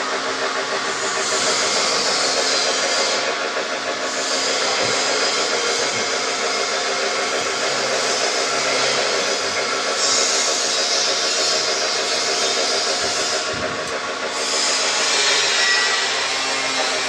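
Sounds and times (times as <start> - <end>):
machinery rushing noise: 0.0 - 17.0.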